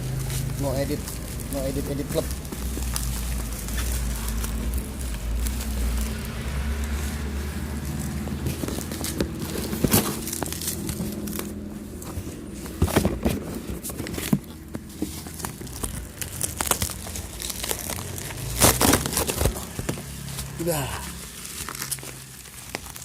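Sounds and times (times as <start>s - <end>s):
packaging crinkling and tearing: 0.0s - 23.0s.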